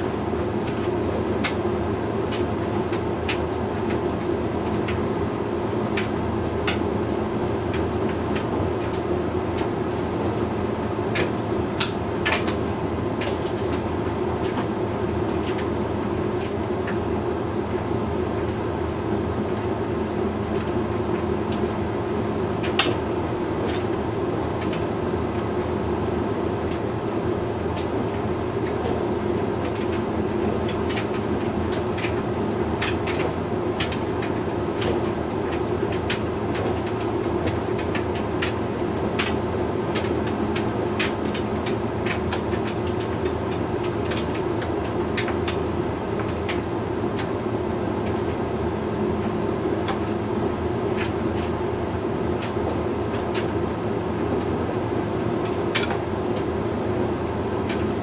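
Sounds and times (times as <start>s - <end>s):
tumble dryer drone: 0.0s - 58.0s.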